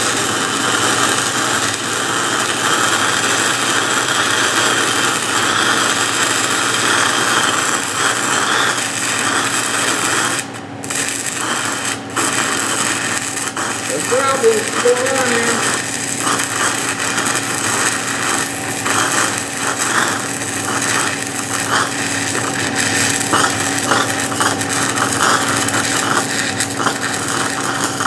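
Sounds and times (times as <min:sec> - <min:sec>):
welding arc crackling: 0:00.0 - 0:28.0
steady hum: 0:00.2 - 0:28.0.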